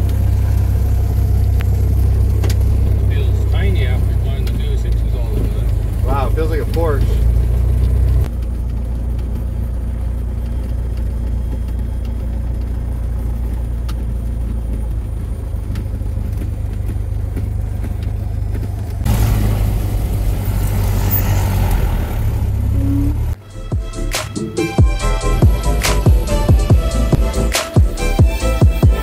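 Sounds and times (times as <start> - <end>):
light plane engine drone: 0.0 - 29.0.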